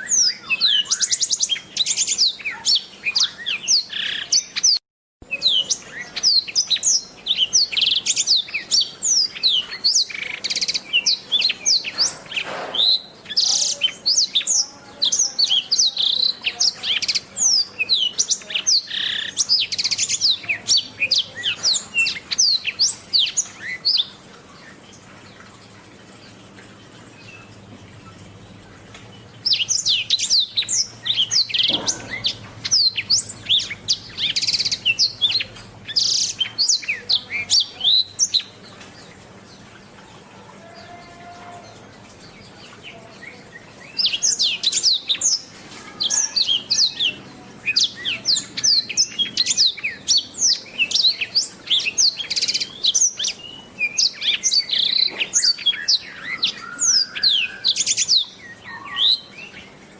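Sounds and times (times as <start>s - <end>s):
bird singing high chirps and trills: 0.0s - 59.9s.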